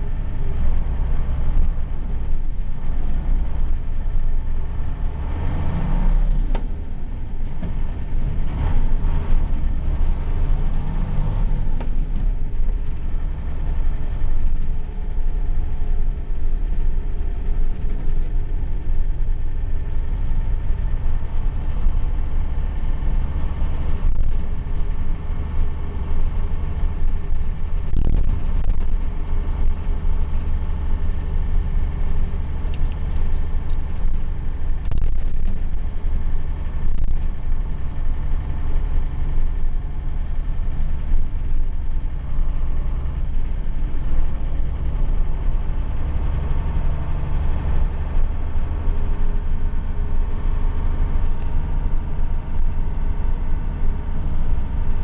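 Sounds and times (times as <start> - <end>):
diesel engine rumble from cab: 0.0 - 55.0.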